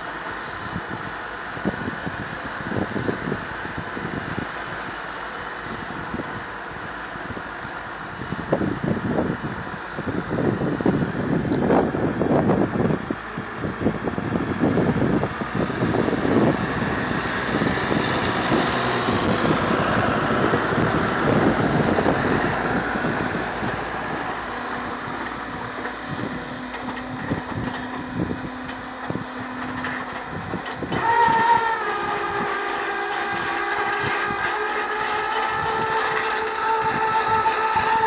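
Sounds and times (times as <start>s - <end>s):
steady low engine tone: 0.0s - 38.0s
tractor engines running: 0.0s - 38.0s.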